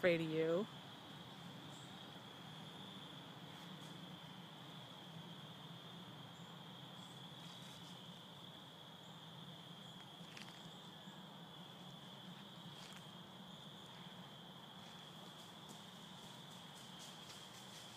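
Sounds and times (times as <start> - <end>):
insect chorus trilling: 0.1 - 17.9.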